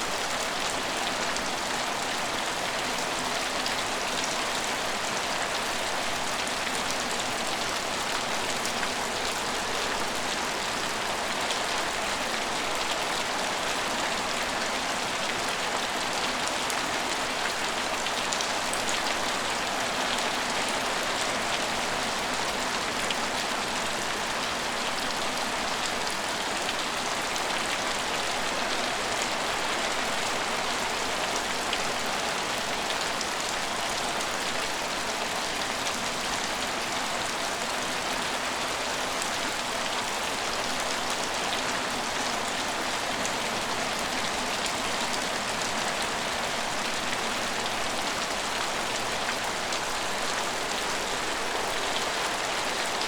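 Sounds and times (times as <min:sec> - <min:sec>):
rain on hard surfaces: 0:00.0 - 0:53.0.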